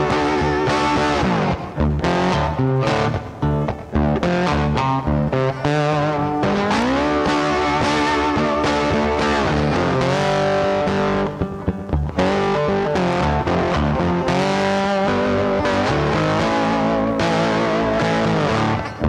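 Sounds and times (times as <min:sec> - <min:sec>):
bass line: 0:00.0 - 0:19.0
distorted electric guitar: 0:00.0 - 0:19.0
guitar instrumental music: 0:00.0 - 0:19.0.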